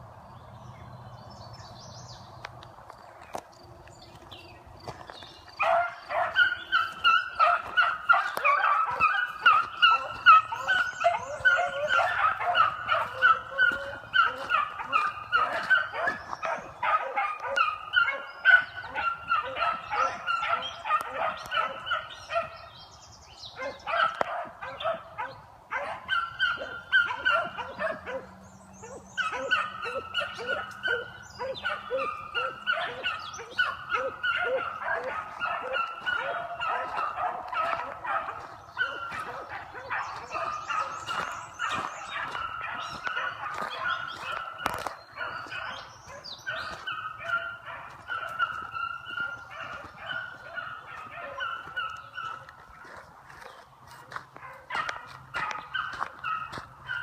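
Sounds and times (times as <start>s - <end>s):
hounds baying: 4.1s - 22.9s, 23.5s - 57.0s.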